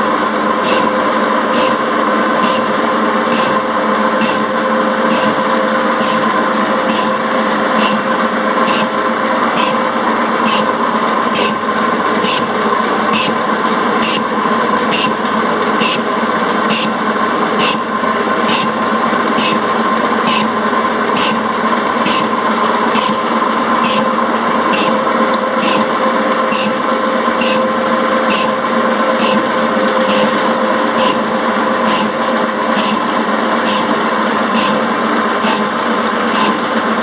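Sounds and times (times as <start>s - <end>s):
machine drive humming: 0.0s - 37.0s
cutter ticking on metal: 0.6s - 36.9s.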